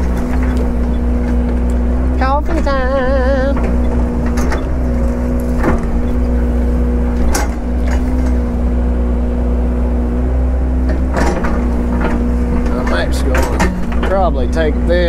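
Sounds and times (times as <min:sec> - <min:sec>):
knocks and clunks: 0:00.0 - 0:08.8, 0:10.2 - 0:15.0
heavy equipment engine running: 0:00.0 - 0:15.0.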